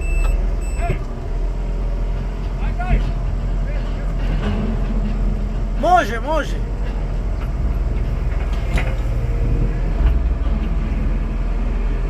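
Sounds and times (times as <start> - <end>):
heavy machinery engine rumbling: 0.0 - 12.0.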